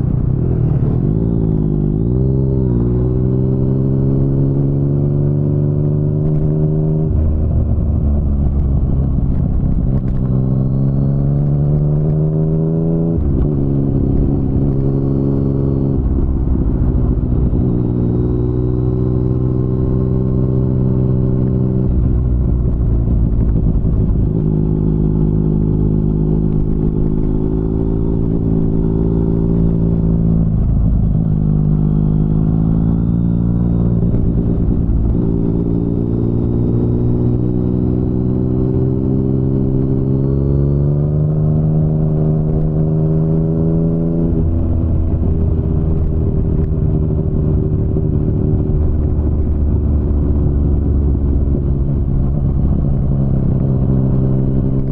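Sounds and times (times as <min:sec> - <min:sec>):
motorcycle engine under throttle: 0:00.0 - 0:54.9.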